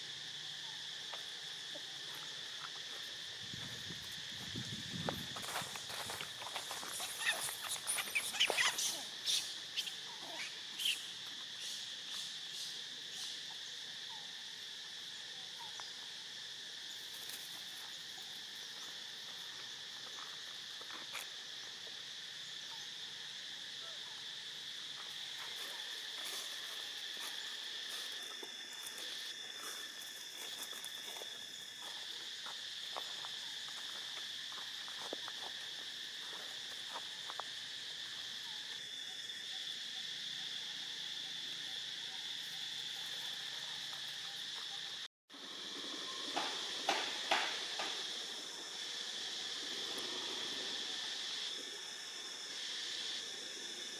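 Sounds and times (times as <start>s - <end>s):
insects trilling: 0.0s - 53.9s
second insect call: 0.0s - 53.9s.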